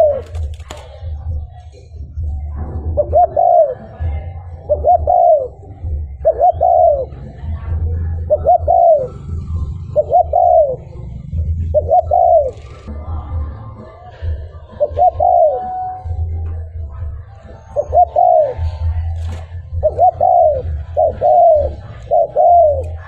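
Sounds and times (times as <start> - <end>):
dove cooing: 0.0 - 1.4, 2.2 - 12.9, 14.2 - 23.0.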